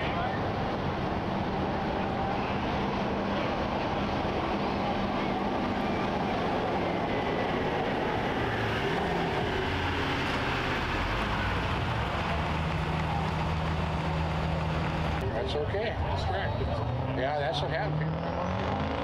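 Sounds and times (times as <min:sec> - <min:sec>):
diesel truck engine running: 0:00.0 - 0:17.8.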